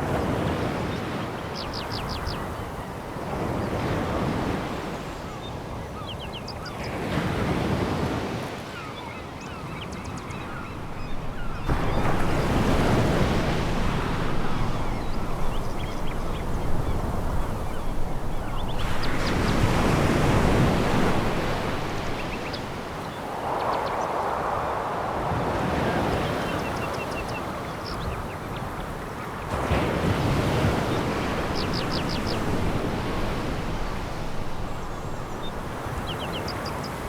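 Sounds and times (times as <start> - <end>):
waves breaking on beach: 0.0 - 6.0, 6.6 - 37.0.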